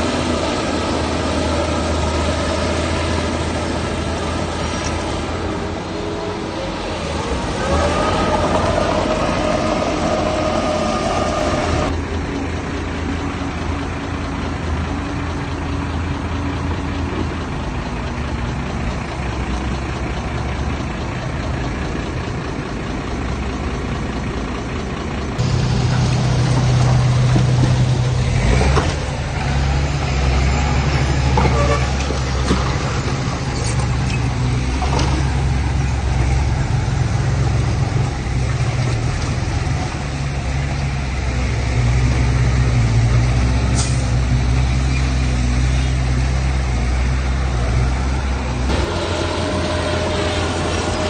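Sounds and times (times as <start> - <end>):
heavy diesel engine running: 0.0 - 51.0.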